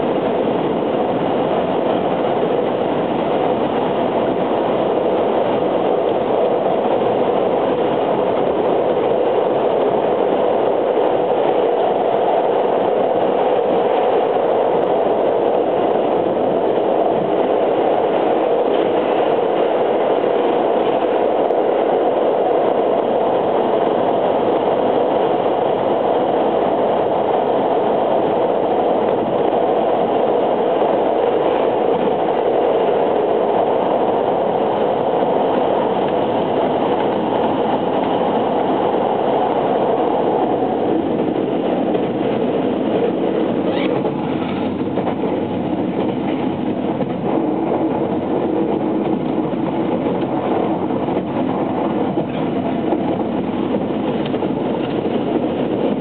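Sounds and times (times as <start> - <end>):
train running noise in tunnel: 0.0 - 56.0.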